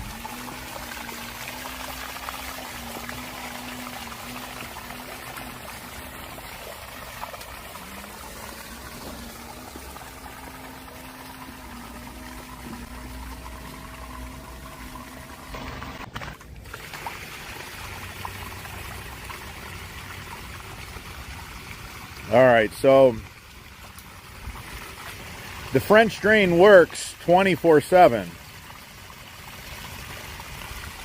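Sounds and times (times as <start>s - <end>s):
running water trickling: 0.0s - 31.0s.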